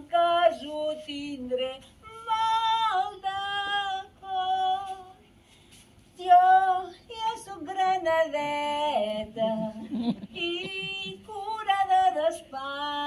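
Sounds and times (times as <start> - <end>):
woman singing: 0.0 - 5.2, 6.2 - 13.0.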